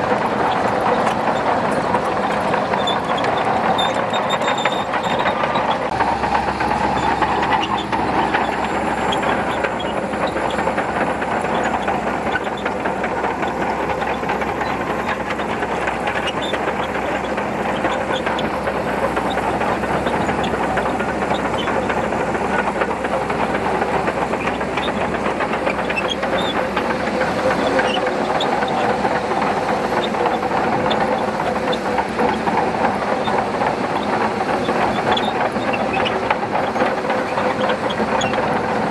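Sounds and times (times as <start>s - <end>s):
bulldozer engine: 0.0s - 38.9s
steel tracks clanking: 0.0s - 38.9s.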